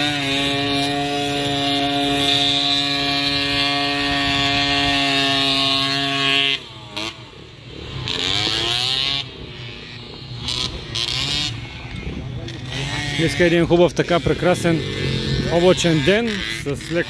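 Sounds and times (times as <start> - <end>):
small motorcycle engine revving: 0.0 - 17.0.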